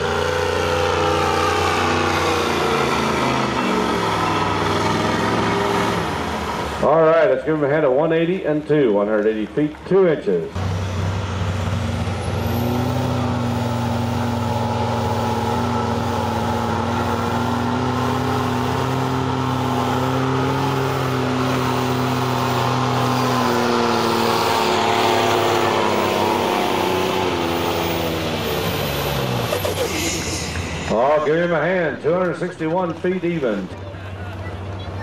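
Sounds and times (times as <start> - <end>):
pickup truck engine at full throttle: 0.0 - 7.3, 10.5 - 35.0.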